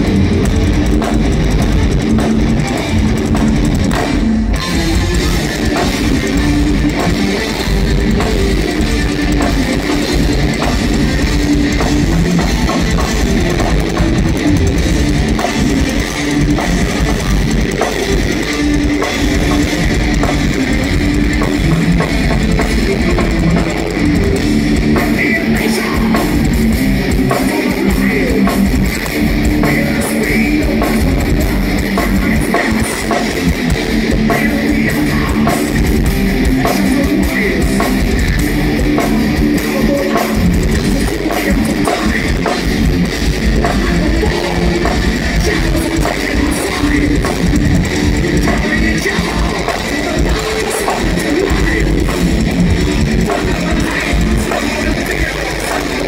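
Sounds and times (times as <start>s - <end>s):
distorted electric guitars: 0.0s - 56.0s
fast pounding drum kit: 0.0s - 56.0s.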